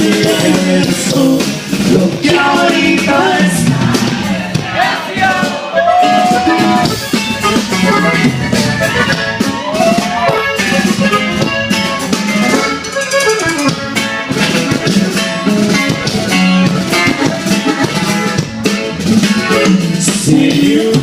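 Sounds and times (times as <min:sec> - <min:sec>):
guitar with drums: 0:00.0 - 0:21.0.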